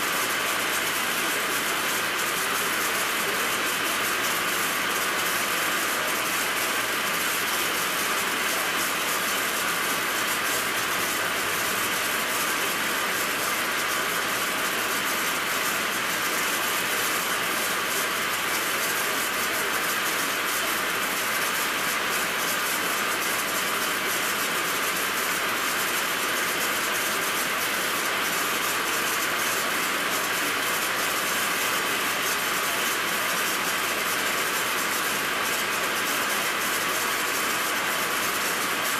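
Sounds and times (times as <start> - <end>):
lathe cutting steel: 0.0 - 38.9.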